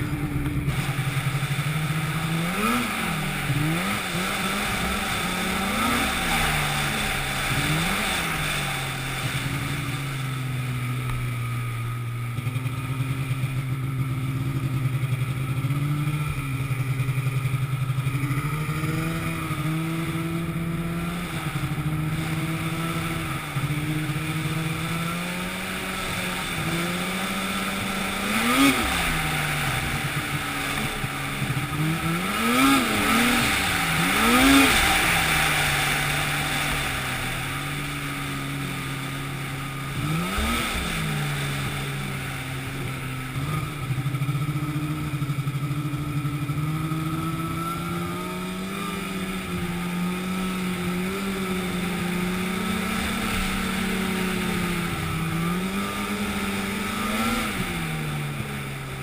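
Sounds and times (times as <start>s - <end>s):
engine running and revving: 0.0s - 59.0s.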